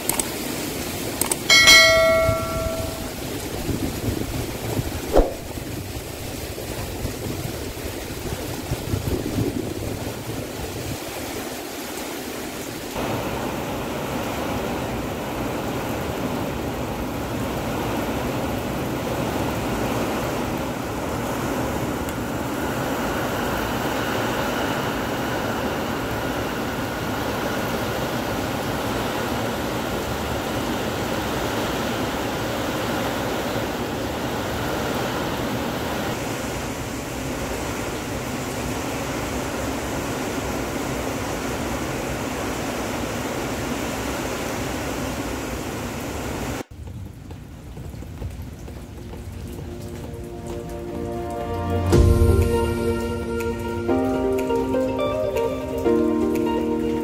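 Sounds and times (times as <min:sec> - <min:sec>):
wind and rain rushing: 0:00.0 - 0:57.0.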